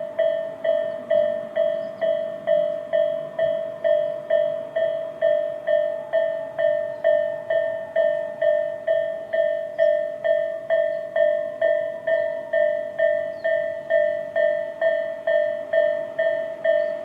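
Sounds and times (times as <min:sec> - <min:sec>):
level-crossing warning bell: 0:00.0 - 0:17.0.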